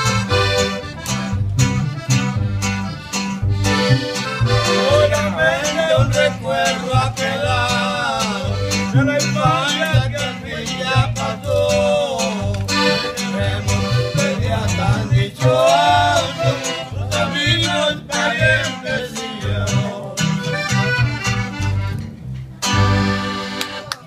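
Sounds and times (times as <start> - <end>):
strummed acoustic guitar: 0.0 - 23.9
accordion melody: 0.0 - 24.0
plucked upright bass: 0.0 - 24.0.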